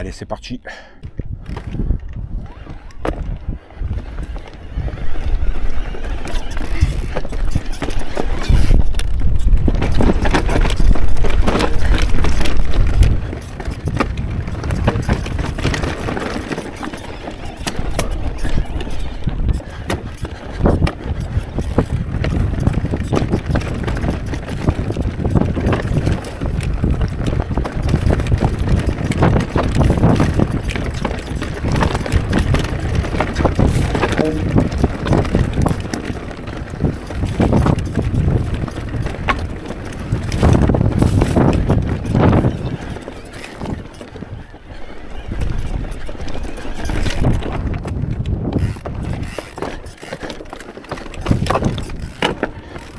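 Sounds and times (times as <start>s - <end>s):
wind rumble on microphone: 1.0s - 52.9s
bike tyres on stone: 1.2s - 52.9s
bike chain and frame rattling: 3.8s - 44.3s, 45.0s - 52.9s.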